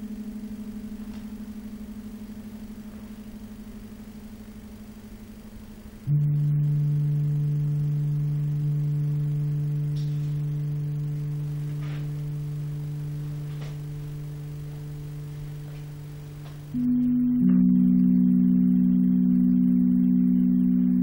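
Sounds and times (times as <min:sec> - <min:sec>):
low electronic tone: 0:00.0 - 0:21.0.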